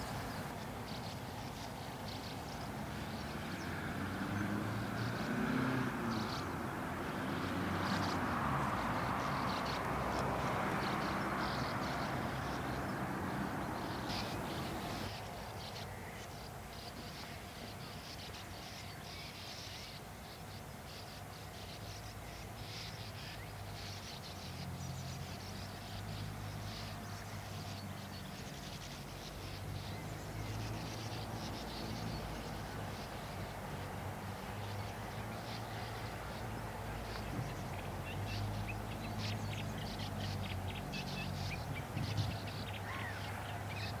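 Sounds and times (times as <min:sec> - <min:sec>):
birds twittering: 0:00.0 - 0:44.0
sand martins chirping: 0:00.0 - 0:44.0.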